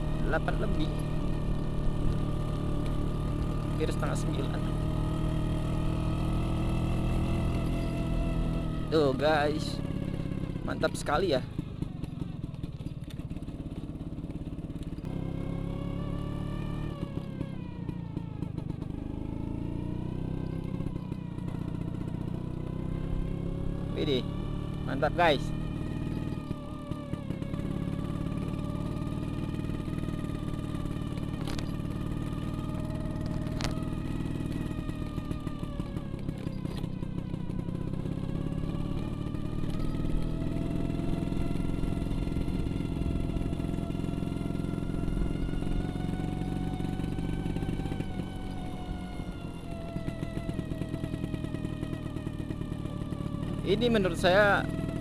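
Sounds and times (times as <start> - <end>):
scooter engine running: 0.0 - 55.0.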